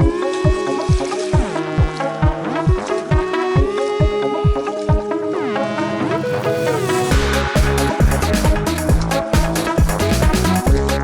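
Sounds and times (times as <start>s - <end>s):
sliding synth notes: 0.0s - 11.0s.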